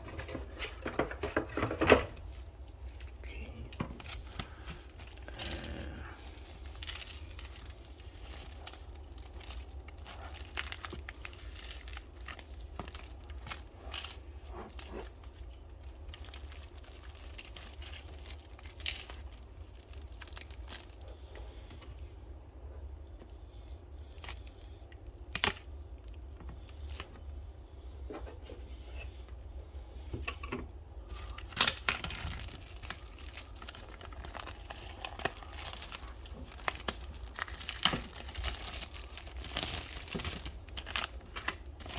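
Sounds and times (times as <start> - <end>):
plastic and paper crinkling: 0.0 - 22.2, 22.8 - 41.9
steady low hum: 0.0 - 41.9.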